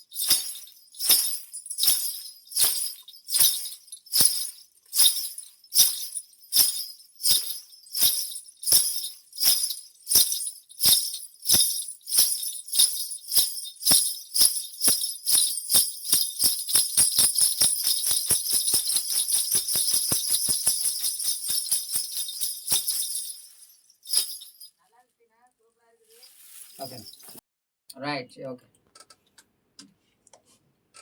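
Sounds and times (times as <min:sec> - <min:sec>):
small bells jingling: 0:00.0 - 0:25.0, 0:26.0 - 0:27.4.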